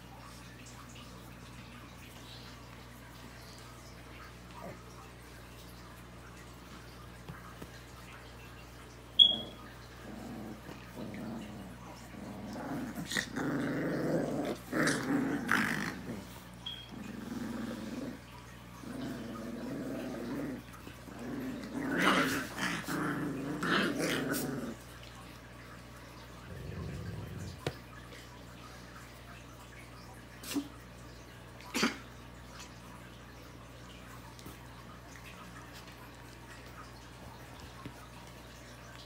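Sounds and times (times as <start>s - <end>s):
faint water trickle: 0.0s - 39.0s
puppies growling in play: 0.0s - 39.0s.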